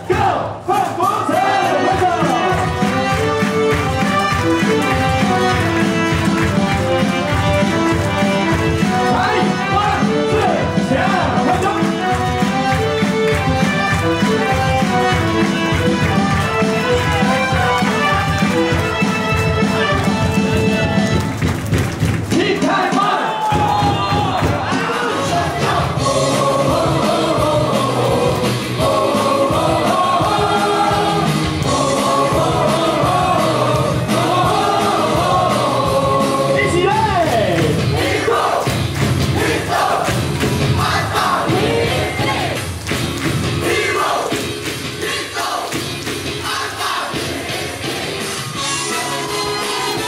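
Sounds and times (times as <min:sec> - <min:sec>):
cheer song with drum beat: 0:00.0 - 0:50.0.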